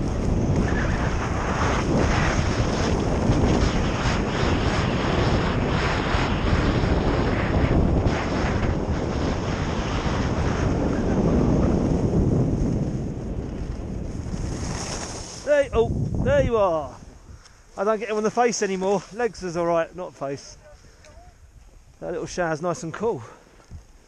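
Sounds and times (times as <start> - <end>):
skis scraping over snow: 0.0 - 16.2, 17.2 - 21.2
wind roaring over microphone: 0.0 - 24.0.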